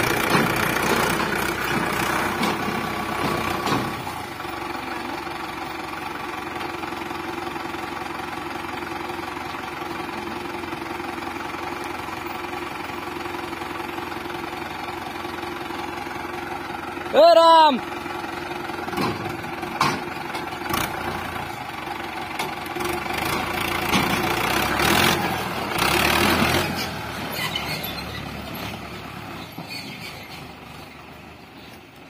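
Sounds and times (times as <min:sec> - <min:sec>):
tractor diesel engine idling: 0:00.0 - 0:32.0.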